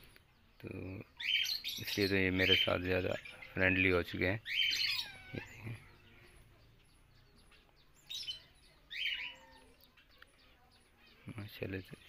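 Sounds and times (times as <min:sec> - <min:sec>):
faint high twittering: 0:00.0 - 0:12.0
parakeets chirping calls: 0:00.0 - 0:12.0.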